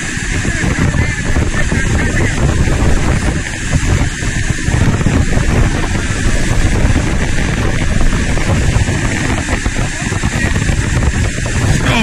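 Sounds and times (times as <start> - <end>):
water pouring over a dam: 0.0 - 12.0
wind buffeting microphone: 0.0 - 12.0.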